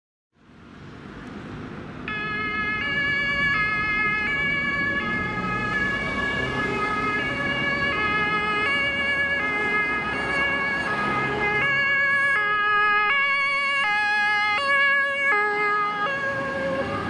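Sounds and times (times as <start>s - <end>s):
traffic and engine noise: 0.3s - 17.0s
two-tone emergency siren: 2.1s - 17.0s.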